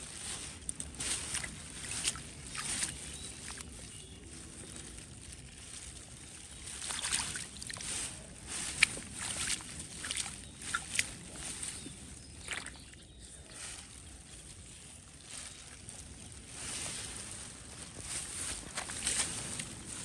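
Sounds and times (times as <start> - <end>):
shallow water splashing: 0.0 - 20.0.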